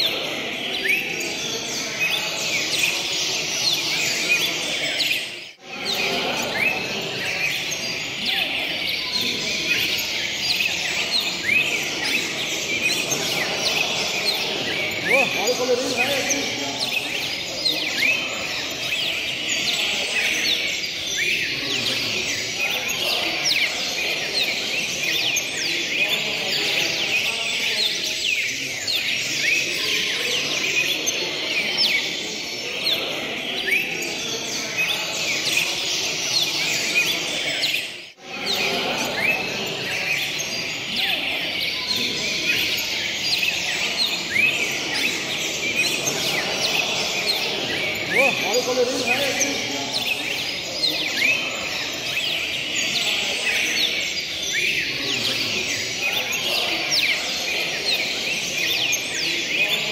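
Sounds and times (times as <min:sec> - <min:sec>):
cardinals chirping and singing: 0:00.0 - 0:59.9
low background murmur: 0:00.0 - 0:59.9.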